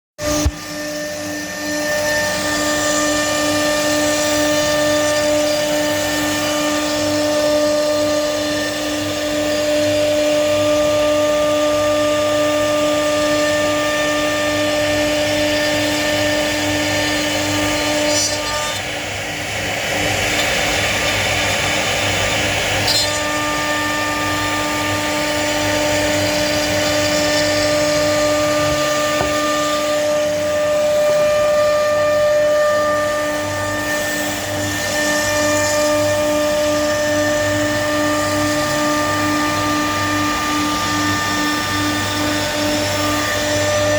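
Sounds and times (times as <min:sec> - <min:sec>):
cutter rasping: 0:00.2 - 0:43.9
router spindle whine: 0:00.2 - 0:43.9.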